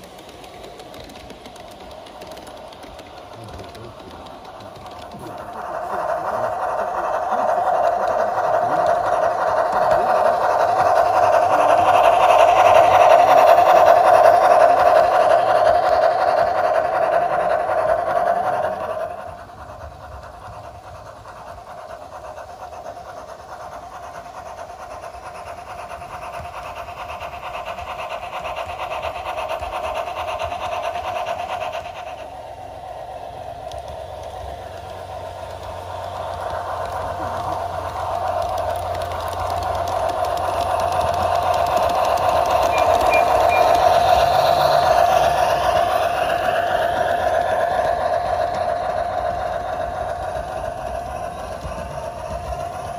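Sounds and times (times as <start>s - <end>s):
model train motor whirring: 0.0s - 52.9s.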